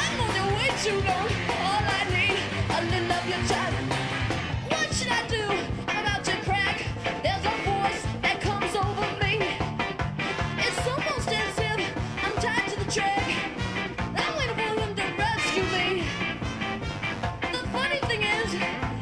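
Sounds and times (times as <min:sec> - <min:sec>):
woman singing: 0:00.0 - 0:04.0, 0:04.7 - 0:09.6, 0:10.6 - 0:16.2, 0:17.5 - 0:19.0
bass guitar: 0:00.0 - 0:19.0
drums with steady beat: 0:00.0 - 0:19.0
electric guitar: 0:00.0 - 0:19.0.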